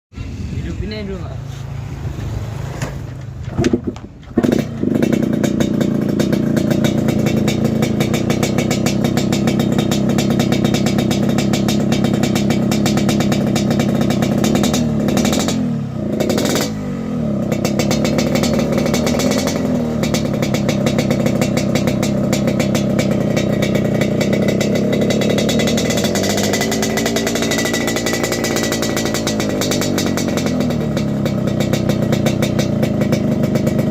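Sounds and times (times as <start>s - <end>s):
motorcycle engine revving: 0.2s - 33.9s.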